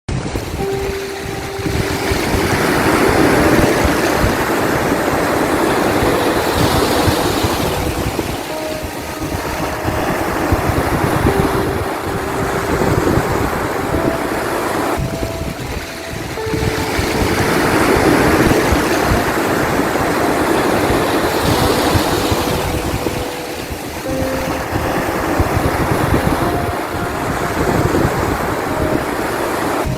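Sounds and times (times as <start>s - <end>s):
ocean waves washing onto shore: 0.1s - 29.9s
wind buffeting microphone: 0.1s - 29.9s.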